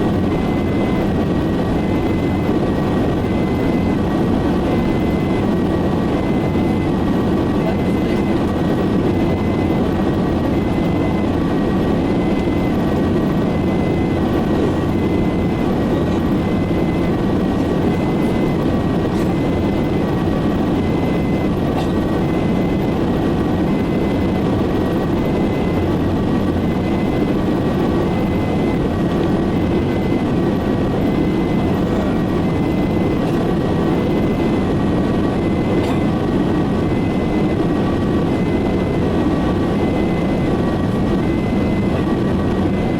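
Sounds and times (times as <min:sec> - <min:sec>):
two-tone emergency siren: 0:00.0 - 0:42.9.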